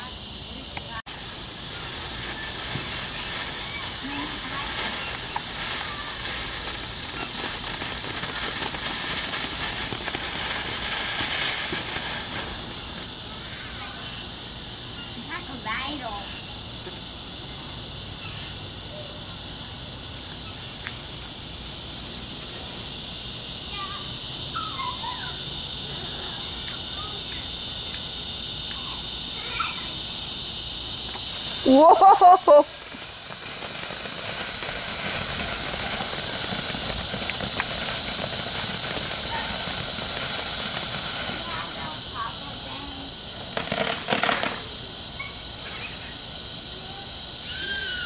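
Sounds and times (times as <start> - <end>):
crickets chirping: 0.0 - 48.0
firework hissing and crackling: 0.0 - 48.0.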